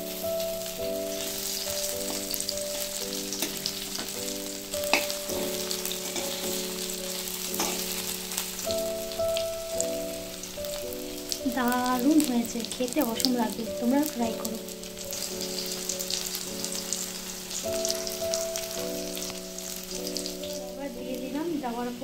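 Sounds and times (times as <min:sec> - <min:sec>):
quiet instrumental music: 0:00.0 - 0:22.0
vegetables sizzling in oil: 0:00.0 - 0:22.0.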